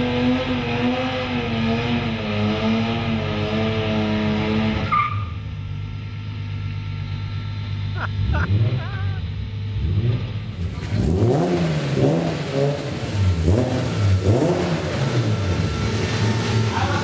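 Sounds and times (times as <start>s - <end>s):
car engine revving hard: 0.0s - 5.1s, 8.2s - 17.0s.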